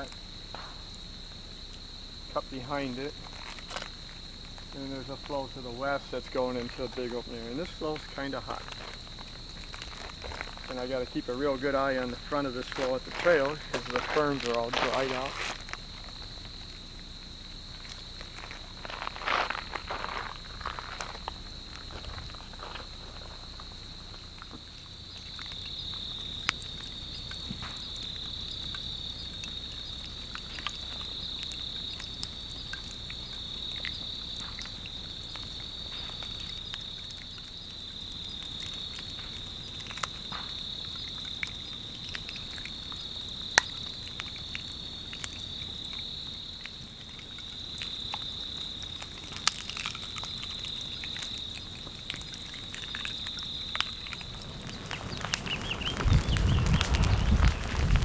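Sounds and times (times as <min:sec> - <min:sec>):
crackles and pops of burning ferns: 0:00.0 - 0:58.0
crickets trilling: 0:00.0 - 0:58.0.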